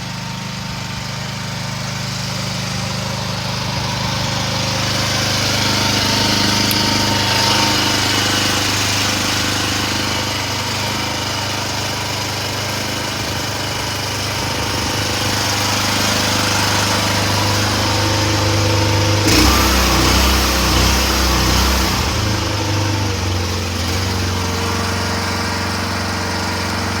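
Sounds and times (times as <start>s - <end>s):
mini excavator engine running: 0.0s - 27.0s.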